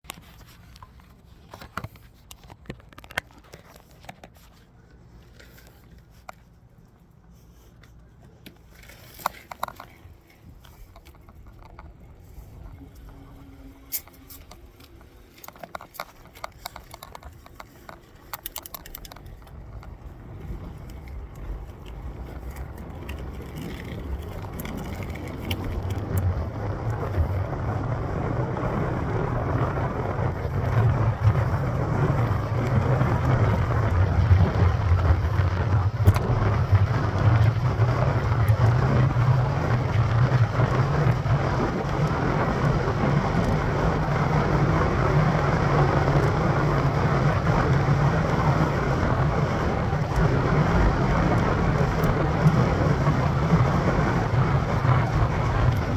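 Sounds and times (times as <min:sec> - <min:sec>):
wind and bike tyre noise: 0:00.0 - 0:55.9.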